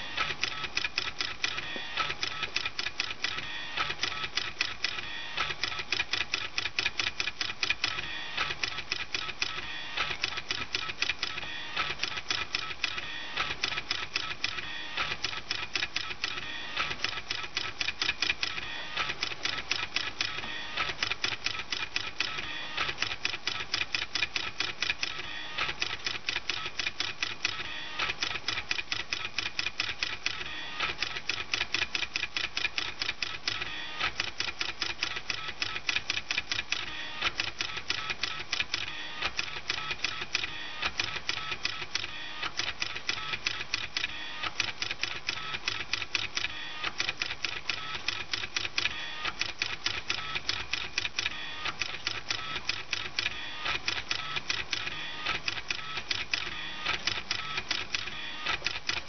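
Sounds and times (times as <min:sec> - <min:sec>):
plotter motors clicking and buzzing: 0:00.0 - 0:59.0.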